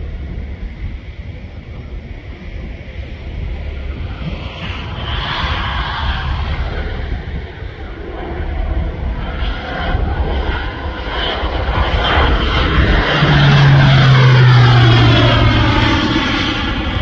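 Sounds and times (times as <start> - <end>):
low-flying plane engine: 0.0 - 17.0.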